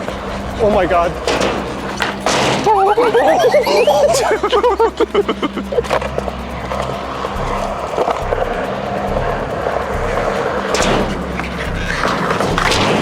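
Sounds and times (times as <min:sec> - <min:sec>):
background music: 0:00.0 - 0:13.0
skateboard clacks: 0:00.0 - 0:13.0
skateboard wheels rolling: 0:00.0 - 0:13.0.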